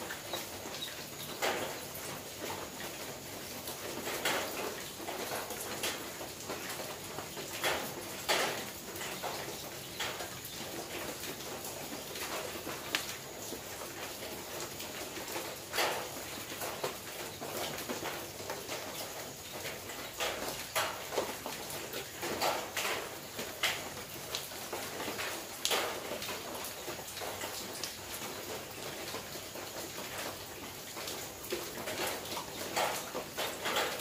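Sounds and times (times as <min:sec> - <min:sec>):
rain on a metal roof: 0:00.0 - 0:34.0.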